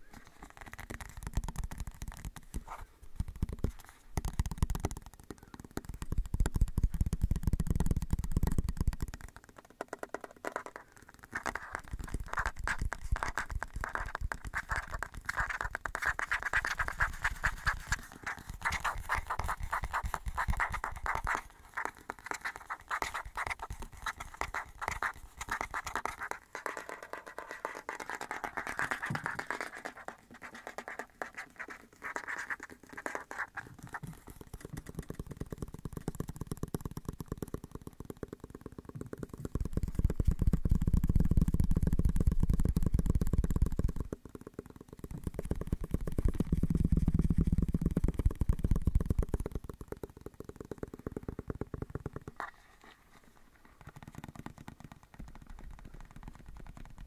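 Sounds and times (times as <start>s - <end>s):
scratching and rubbing on microphone: 0.0s - 57.0s
small crackles: 0.0s - 57.0s.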